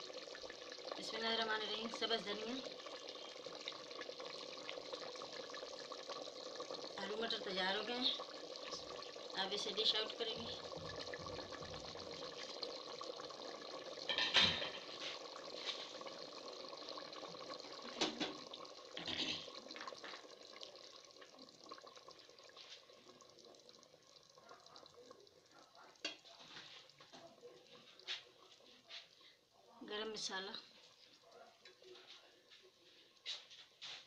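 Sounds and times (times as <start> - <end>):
curry simmering and bubbling: 0.0 - 34.0.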